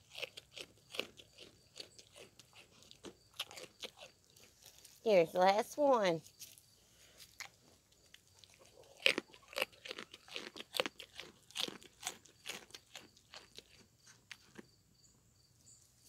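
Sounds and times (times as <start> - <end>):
goat crunching carrot: 0.0 - 14.8.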